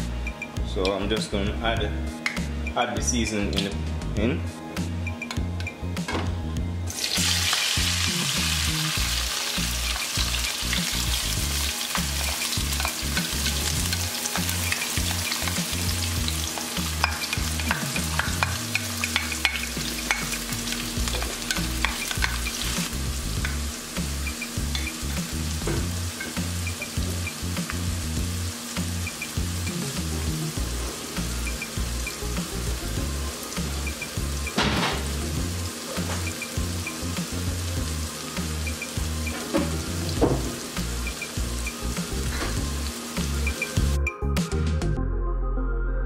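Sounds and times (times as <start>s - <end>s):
vegetables sizzling in oil: 6.9s - 44.0s.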